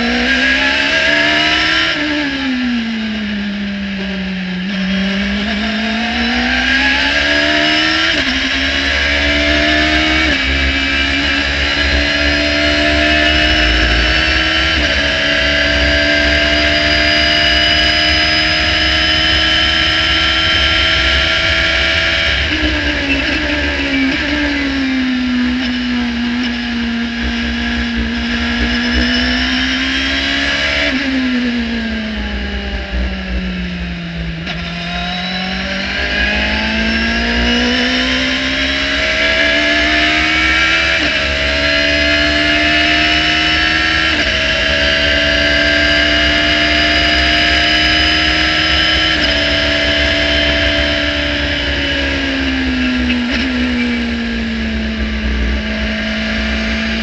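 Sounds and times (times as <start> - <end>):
race car engine revving: 0.0 - 57.0
steady high whine: 2.0 - 57.0
gear changes: 3.9 - 57.0.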